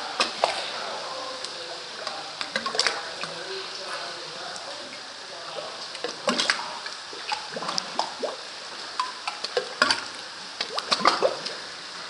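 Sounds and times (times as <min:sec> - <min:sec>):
water lapping in cave hollows: 0:00.0 - 0:12.0.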